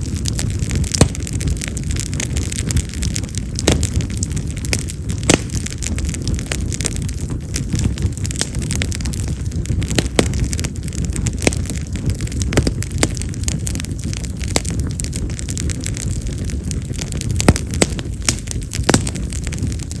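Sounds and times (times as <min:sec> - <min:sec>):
fire flames rumbling: 0:00.0 - 0:20.0
firewood crackling and popping: 0:00.0 - 0:20.0.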